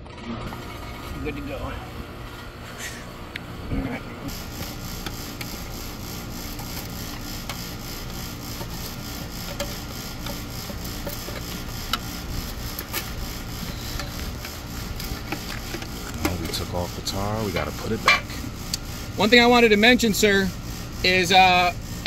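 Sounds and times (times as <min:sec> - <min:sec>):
steady low hum: 0:00.1 - 0:22.0
tool stirring thick tar: 0:04.3 - 0:22.0.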